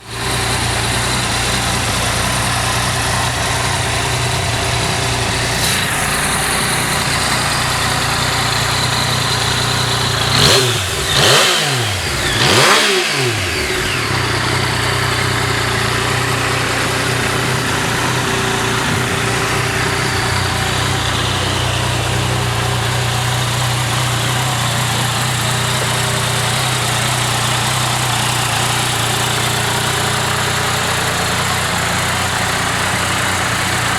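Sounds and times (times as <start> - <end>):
motorcycle engine idling: 0.0 - 33.9
motorcycle throttle blips: 0.1 - 33.9.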